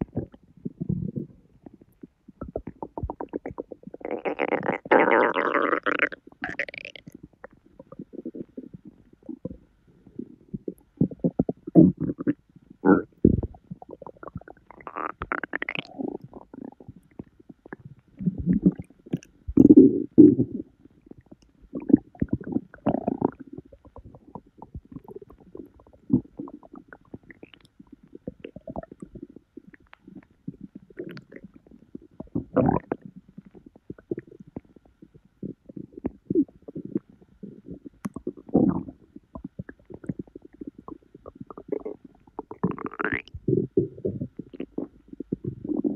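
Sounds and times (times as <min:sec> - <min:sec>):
stomach gurgling and rumbling: 0:00.0 - 0:45.9.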